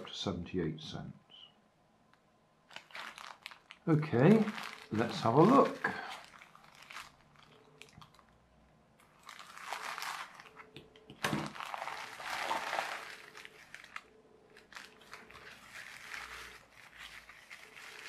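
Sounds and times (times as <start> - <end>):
plastic wrapping crinkling: 2.7 - 8.4, 9.0 - 18.0.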